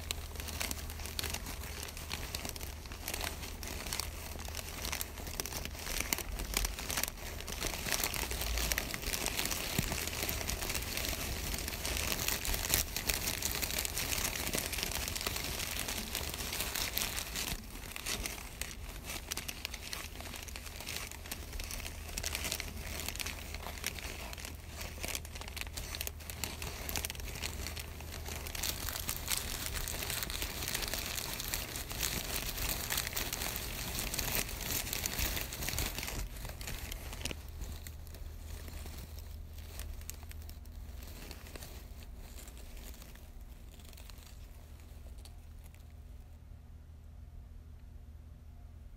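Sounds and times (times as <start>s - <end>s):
dense crinkling and crackling: 0.0s - 46.7s.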